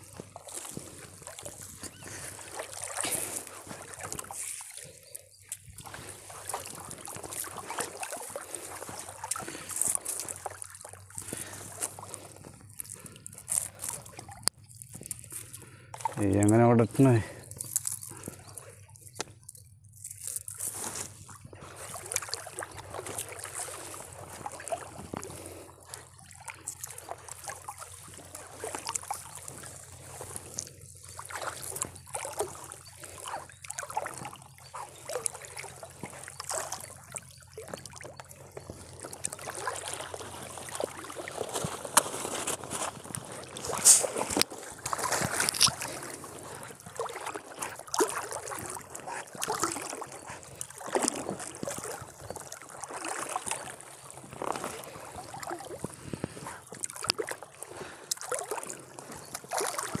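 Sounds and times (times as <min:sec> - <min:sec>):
water dripping and splashing: 0:00.0 - 1:00.0.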